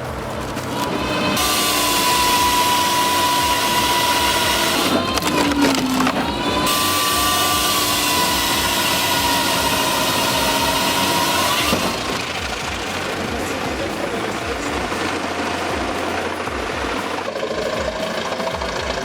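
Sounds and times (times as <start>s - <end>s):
wood processing machine whining: 0.0s - 19.0s.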